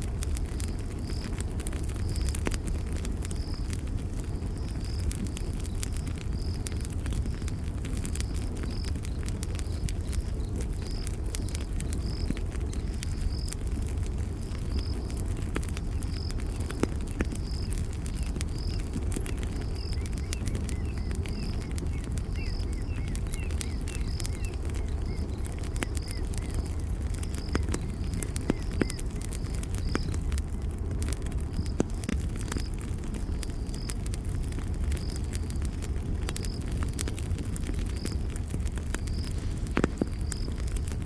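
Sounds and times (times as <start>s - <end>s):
campfire crackling and popping: 0.0s - 41.0s
faint twittering chirps: 0.6s - 30.4s, 31.2s - 41.0s.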